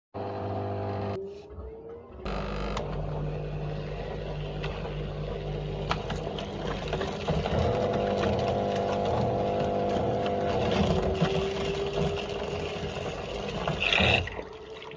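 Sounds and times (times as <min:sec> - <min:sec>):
washing machine motor hum: 0:00.2 - 0:14.9.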